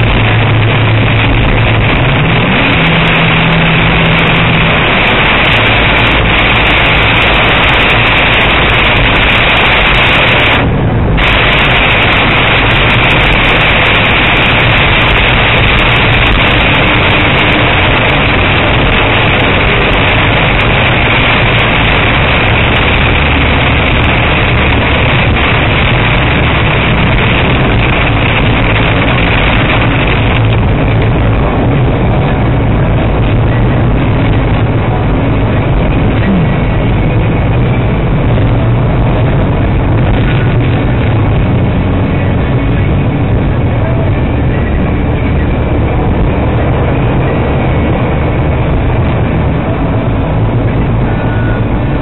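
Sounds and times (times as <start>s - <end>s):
engine and tyre rumble: 0.0s - 52.0s
heavy rain and road spray hiss: 0.0s - 52.0s.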